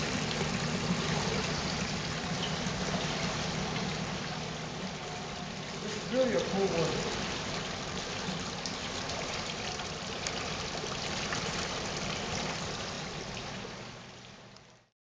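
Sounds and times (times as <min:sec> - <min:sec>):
fountain water splashing: 0:00.0 - 0:14.8.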